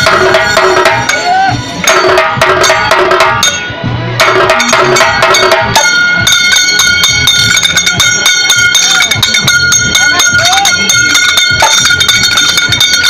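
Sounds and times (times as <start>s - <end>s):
barrel drums beaten: 0.0s - 13.0s
steady high ringing: 0.0s - 13.0s.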